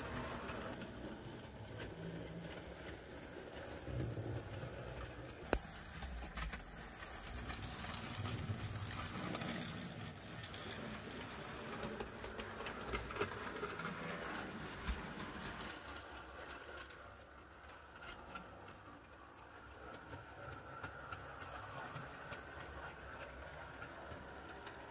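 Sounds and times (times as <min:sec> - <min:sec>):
model train wheels clicking on rails: 0:00.0 - 0:24.9.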